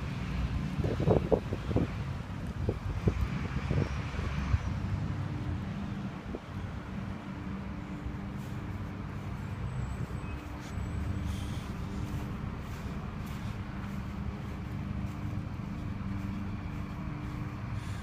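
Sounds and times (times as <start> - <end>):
large vehicle engine running: 0.0 - 18.0
street traffic rumble: 0.0 - 18.0.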